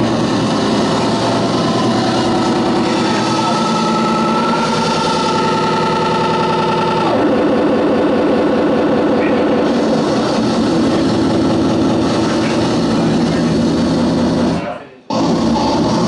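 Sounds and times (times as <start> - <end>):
distorted electronic drone: 0.0 - 16.0.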